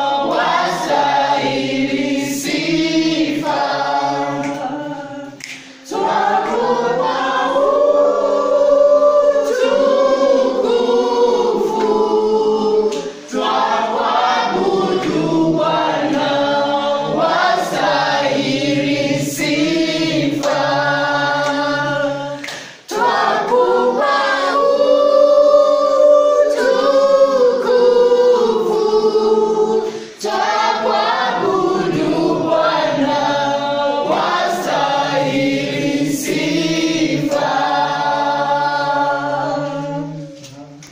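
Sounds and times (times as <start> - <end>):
children's choir singing: 0.0 - 40.9.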